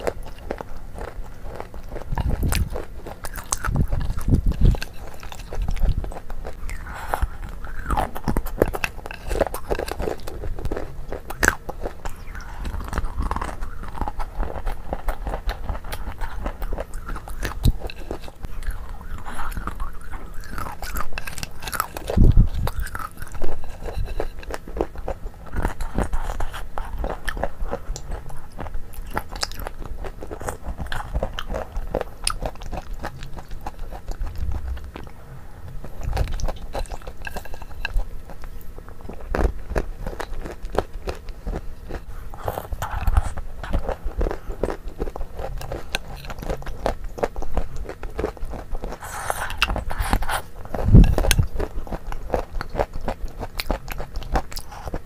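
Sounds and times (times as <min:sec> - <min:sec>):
crunching food: 0:00.0 - 0:55.0
wet chewing and lip smacking: 0:00.0 - 0:55.0.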